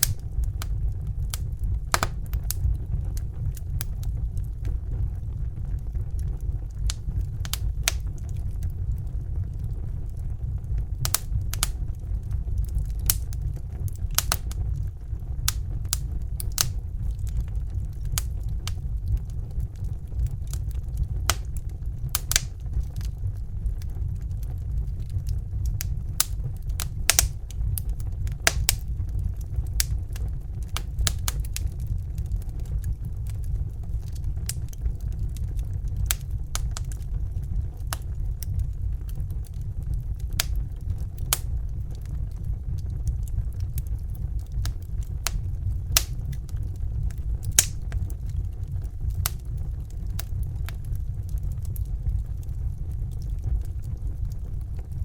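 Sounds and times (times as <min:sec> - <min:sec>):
fire crackling and popping: 0:00.0 - 0:55.0
low rumble: 0:00.0 - 0:55.0.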